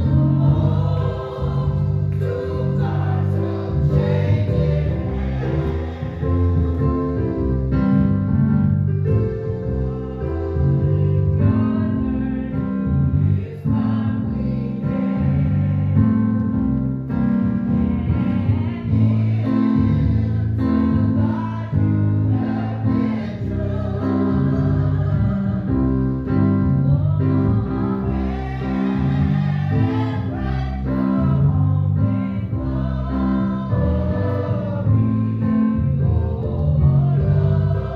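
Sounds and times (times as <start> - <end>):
congregation singing a hymn: 0.0 - 37.9
piano accompaniment: 0.0 - 37.9.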